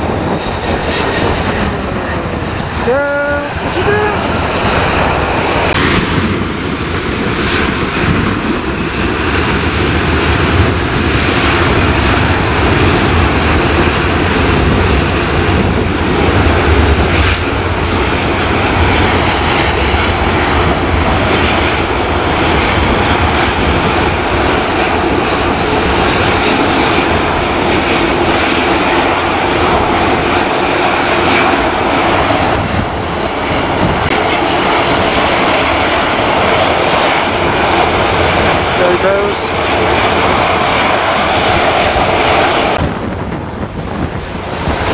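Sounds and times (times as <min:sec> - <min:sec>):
jet engines at take-off: 0:00.0 - 0:44.9
wind buffeting microphone: 0:00.0 - 0:44.9.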